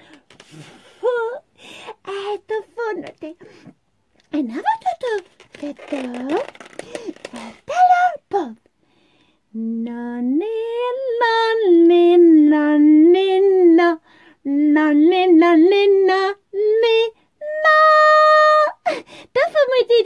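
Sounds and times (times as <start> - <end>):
woman singing unaccompanied: 0.0 - 3.6, 4.3 - 8.7, 9.5 - 20.0.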